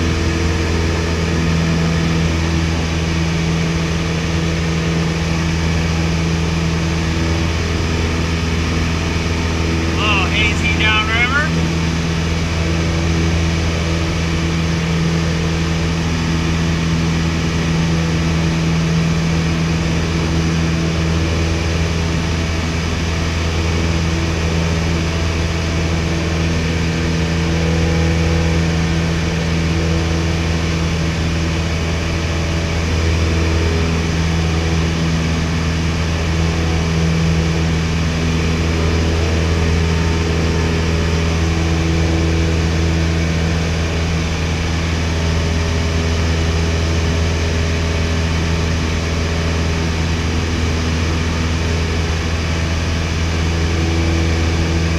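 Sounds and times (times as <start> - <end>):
light aircraft engine droning: 0.0 - 54.9.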